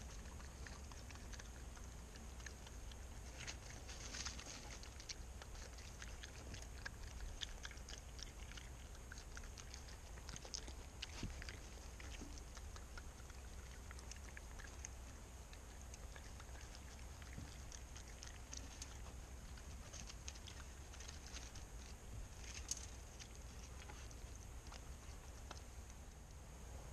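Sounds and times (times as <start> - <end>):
raccoon chewing birdseed: 0.0 - 26.7.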